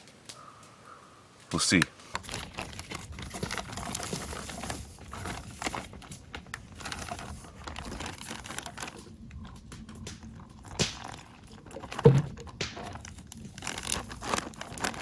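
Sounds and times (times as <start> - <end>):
plastic bag crinkling: 2.0 - 15.0.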